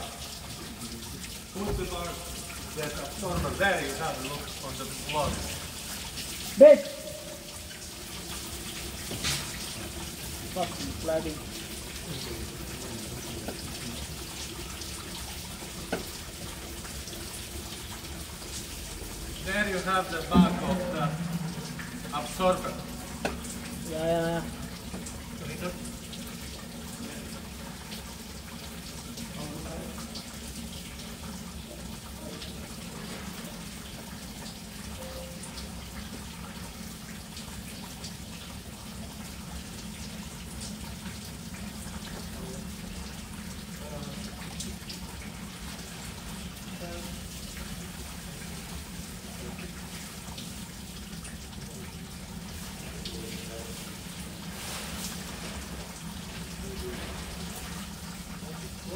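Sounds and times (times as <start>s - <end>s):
faint ticks and drips: 0.0s - 58.9s
fluid draining onto floor: 0.0s - 58.9s.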